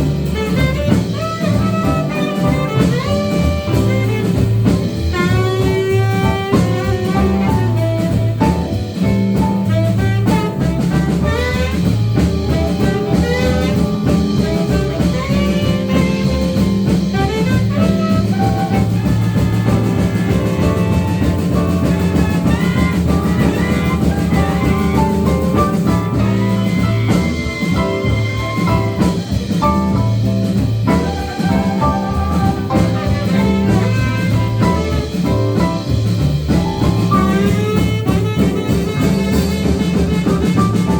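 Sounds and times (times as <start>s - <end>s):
bass: 0.0s - 40.9s
drum kit: 0.0s - 40.9s
horn solo: 0.0s - 40.9s.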